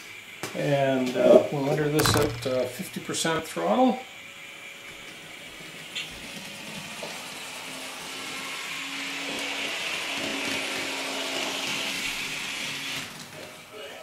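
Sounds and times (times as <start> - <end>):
model train engine running: 0.0 - 2.0, 2.6 - 14.0.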